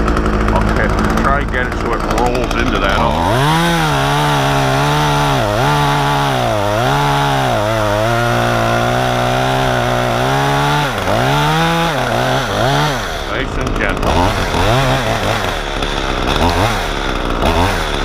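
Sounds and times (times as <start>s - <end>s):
chainsaw at high revs: 0.0s - 18.0s.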